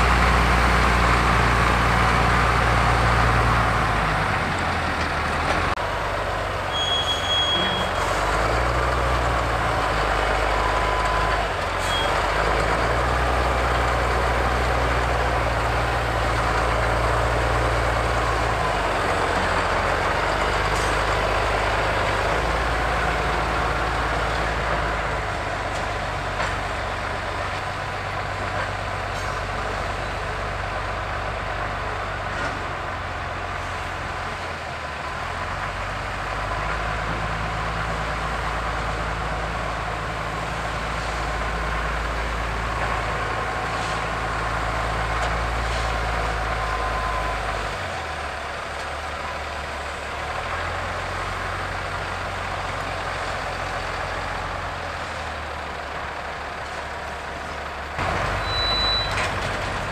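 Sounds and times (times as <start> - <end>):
diesel loader engine revving: 0.0 - 59.9.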